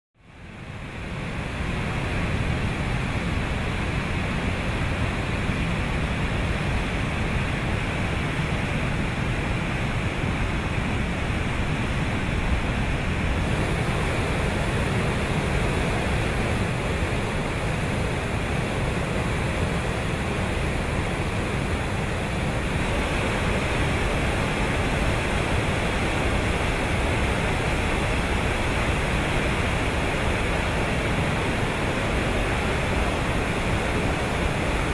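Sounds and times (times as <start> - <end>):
floodwater rushing over rocks: 2.3 - 34.9.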